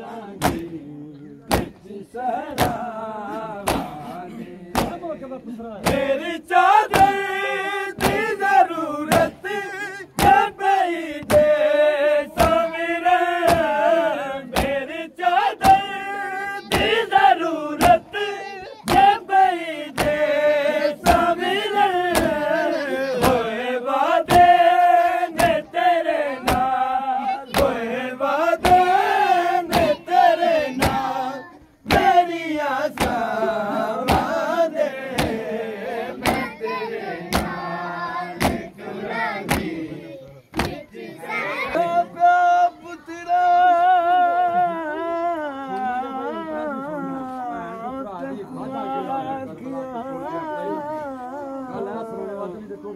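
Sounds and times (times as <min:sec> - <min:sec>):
rhythmic chest-beating: 0:00.0 - 0:42.6
men chanting a lament: 0:00.0 - 0:52.9.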